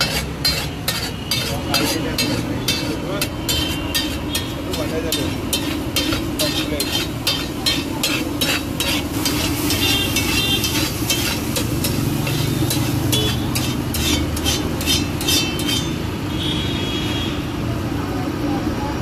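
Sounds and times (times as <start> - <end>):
metal spatula striking a griddle: 0.0 - 16.2
frying sizzle: 0.0 - 16.5.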